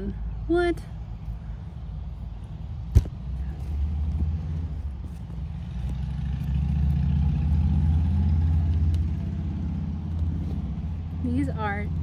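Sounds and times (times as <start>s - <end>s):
engine running: 1.2s - 12.0s.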